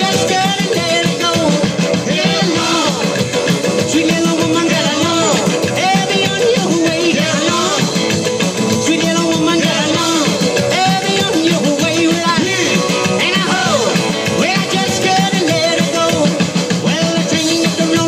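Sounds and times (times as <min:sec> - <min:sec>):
live rock and roll band: 0:00.0 - 0:18.0.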